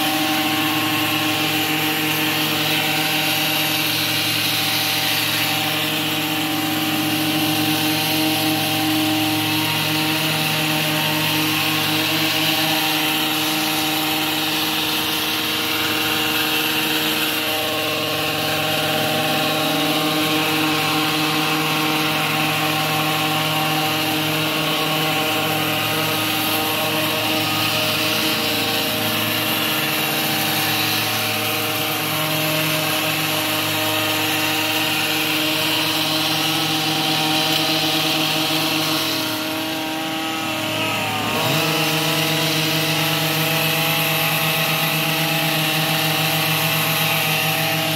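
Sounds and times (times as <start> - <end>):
hedge trimmer engine running: 0.0 - 47.9.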